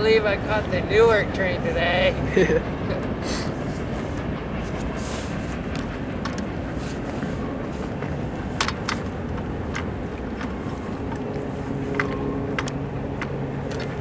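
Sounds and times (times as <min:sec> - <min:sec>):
freight train cars rumbling: 0:00.0 - 0:14.0
wheels clicking: 0:00.0 - 0:14.0.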